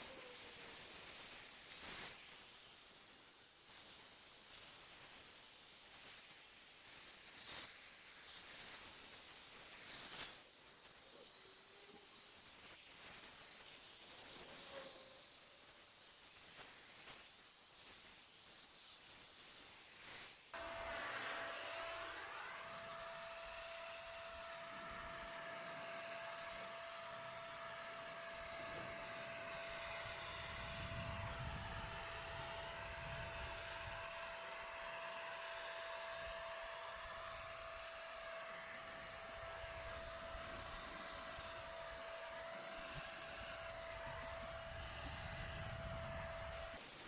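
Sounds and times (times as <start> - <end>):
paint spray gun motor whine: 0.0 - 47.0.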